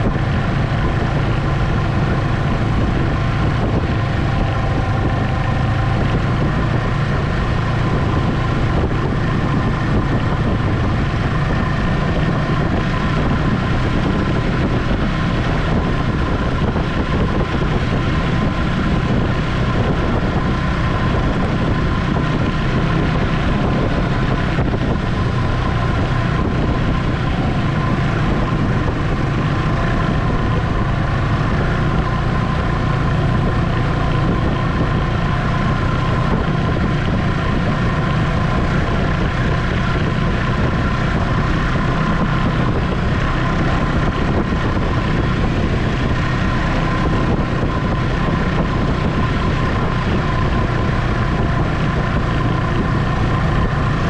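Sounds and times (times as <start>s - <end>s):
high whine: 0.0s - 54.0s
snowmobile engine humming: 0.0s - 54.0s.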